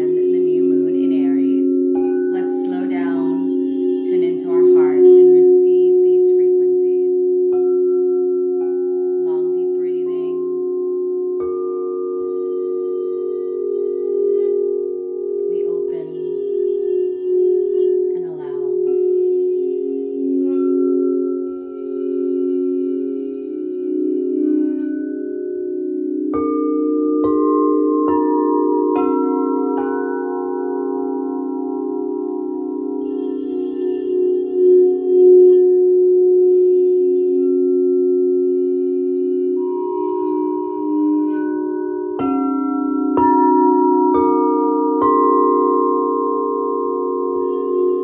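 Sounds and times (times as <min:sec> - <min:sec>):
crystal singing bowls ringing: 0:00.0 - 0:48.0
singing bowl strikes: 0:00.0 - 0:48.0.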